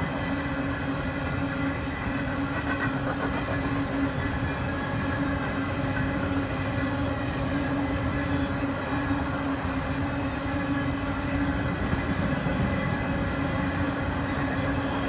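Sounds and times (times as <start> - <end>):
freight train wheels rumbling: 0.0 - 15.0
steady hum: 0.0 - 15.0.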